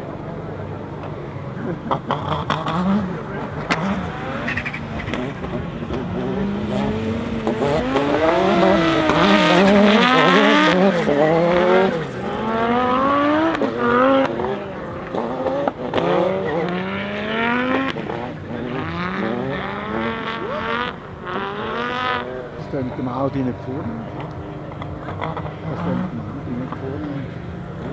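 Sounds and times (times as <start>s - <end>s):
car engine accelerating hard: 0.0s - 27.9s.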